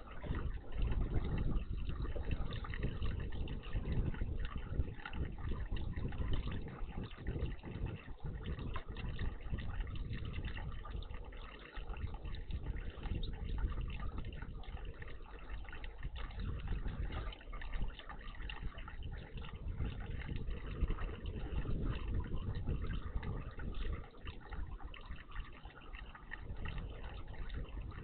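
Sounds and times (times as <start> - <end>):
steady low rumble: 0.0 - 28.0
water splashing and trickling: 0.0 - 28.0.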